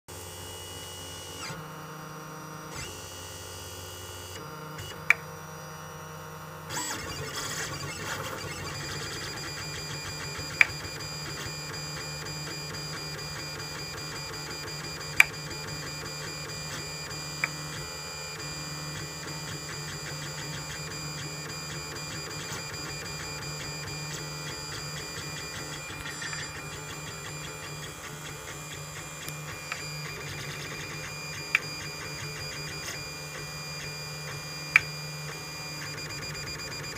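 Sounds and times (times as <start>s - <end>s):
printer humming and whining: 0.2s - 36.9s.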